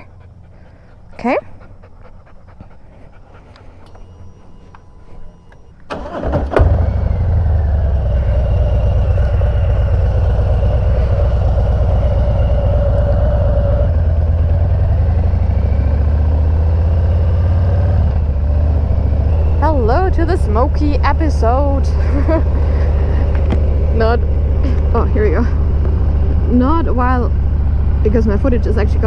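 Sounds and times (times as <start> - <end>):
motorcycle engine starting and running: 3.8 - 29.0.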